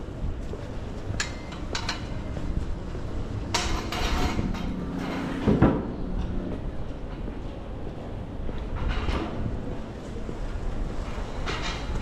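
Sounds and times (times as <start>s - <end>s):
low hum: 0.0s - 11.2s
low street rumble: 0.0s - 12.0s.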